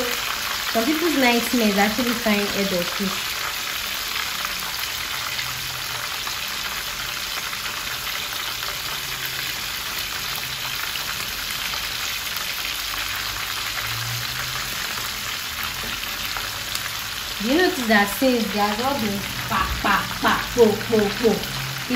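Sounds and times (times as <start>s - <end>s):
fish deep-frying in oil: 0.0s - 21.9s.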